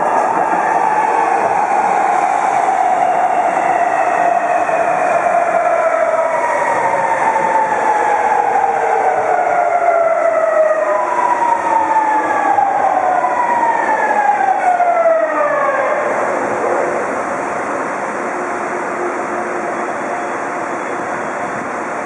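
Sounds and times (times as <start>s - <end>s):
train rolling rumble: 0.0s - 15.2s, 16.0s - 22.0s.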